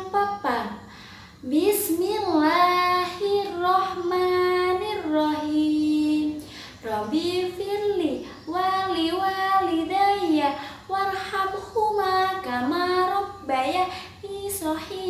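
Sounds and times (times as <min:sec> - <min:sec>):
woman singing a slow chant: 0:00.0 - 0:15.0.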